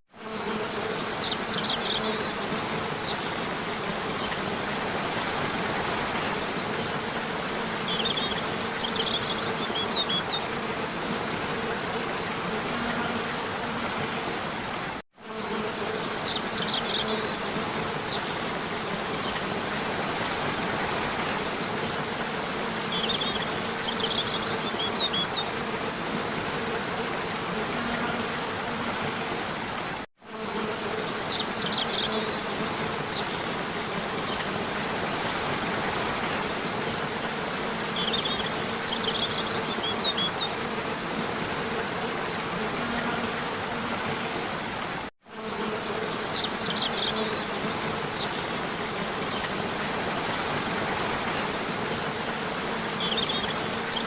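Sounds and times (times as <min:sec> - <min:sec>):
continuous buzzing hiss: 0:00.1 - 0:54.0.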